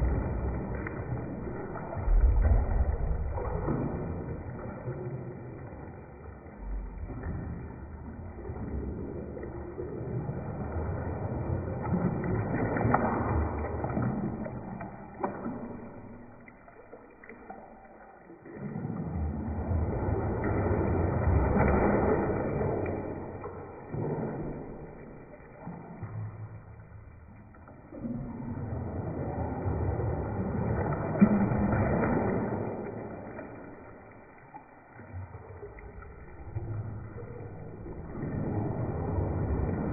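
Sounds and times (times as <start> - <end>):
bathwater sloshing: 0.0 - 39.9.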